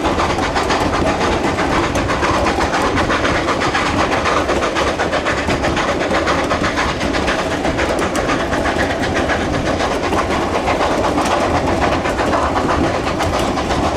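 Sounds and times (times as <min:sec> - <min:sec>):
steam locomotive exhaust: 0:00.0 - 0:13.9
train wheels clattering on rails: 0:00.0 - 0:13.9.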